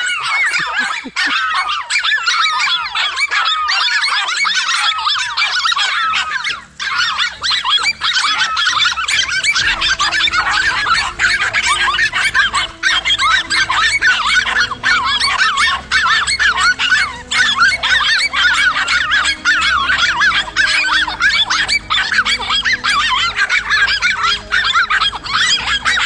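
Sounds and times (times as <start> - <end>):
small dogs barking and yelping: 0.0 - 26.0.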